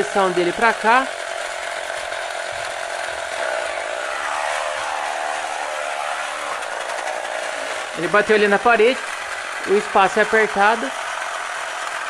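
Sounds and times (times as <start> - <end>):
small electric motor whirring: 0.0 - 12.0
toy car engine sound effect: 0.0 - 12.0.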